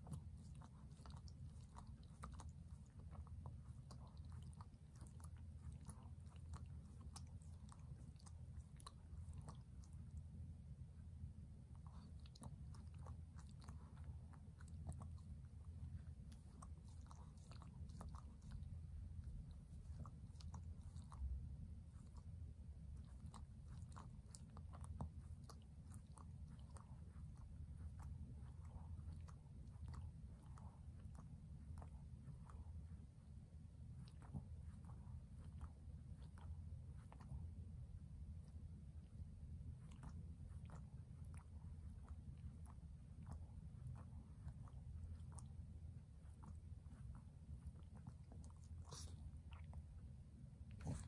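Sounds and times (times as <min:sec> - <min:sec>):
dog chewing: 0:00.0 - 0:10.4, 0:11.6 - 0:51.0
low room hum: 0:00.0 - 0:51.0.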